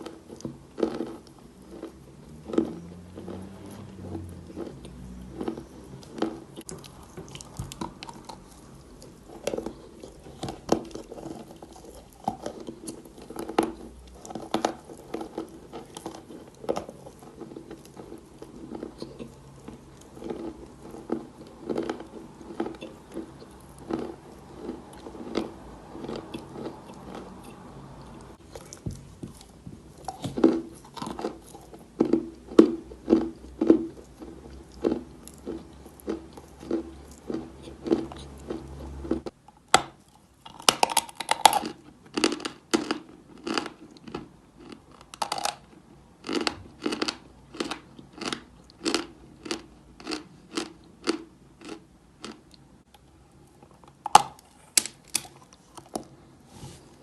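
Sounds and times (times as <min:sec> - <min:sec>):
rhythmic chewing: 0:00.0 - 0:57.0.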